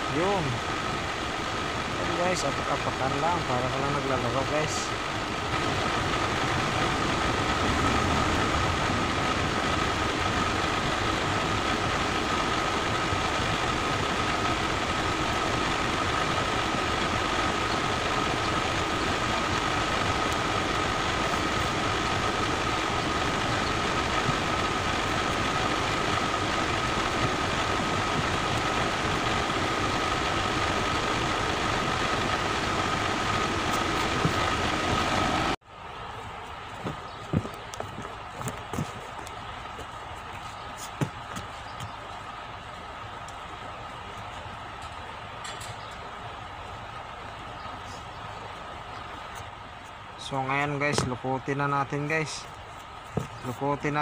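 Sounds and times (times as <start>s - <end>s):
constant high whine: 0.0s - 54.0s
machine drone: 0.0s - 54.0s.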